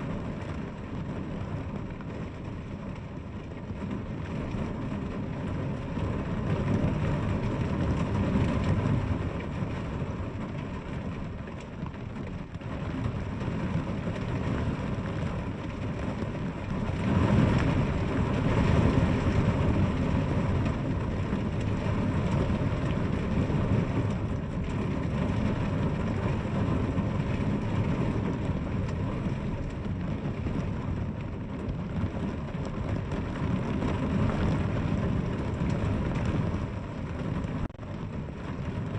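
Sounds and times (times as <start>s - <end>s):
deep rumble: 0.0s - 38.9s
steady rain: 0.0s - 38.9s.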